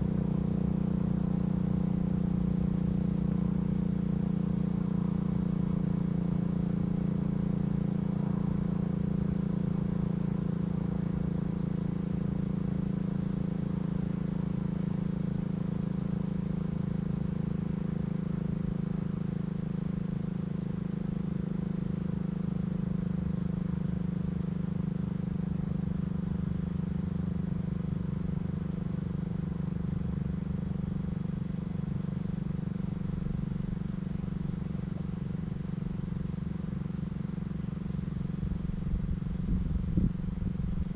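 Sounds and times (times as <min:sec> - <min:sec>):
crickets trilling: 0:00.0 - 0:40.9
steady low hum: 0:00.0 - 0:40.9.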